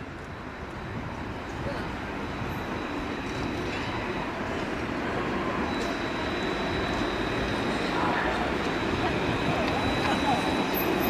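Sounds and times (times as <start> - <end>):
tram running on street track: 0.0 - 11.0.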